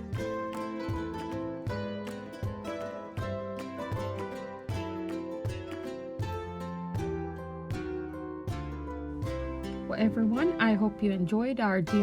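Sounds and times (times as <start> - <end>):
plucked string music with beat: 0.0 - 12.0.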